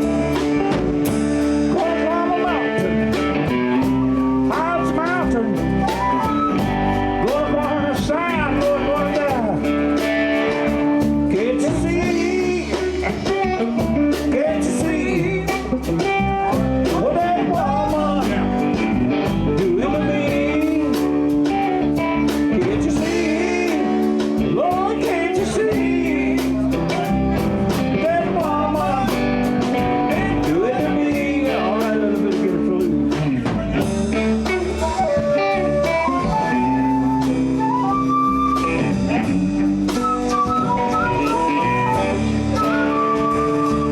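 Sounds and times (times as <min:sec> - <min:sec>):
bending lead guitar line: 0:00.0 - 0:43.9
live blues band playing: 0:00.0 - 0:43.9.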